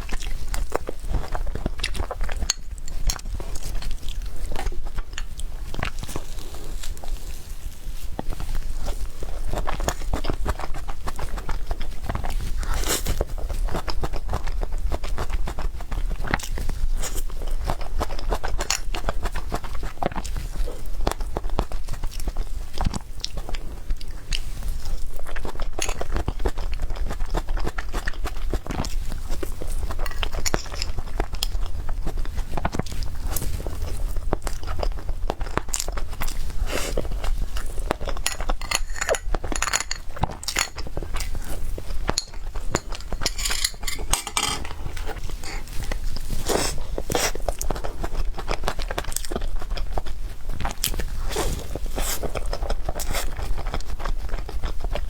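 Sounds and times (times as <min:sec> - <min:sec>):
chewing and biting cake: 0:00.0 - 0:44.1, 0:44.7 - 0:55.0.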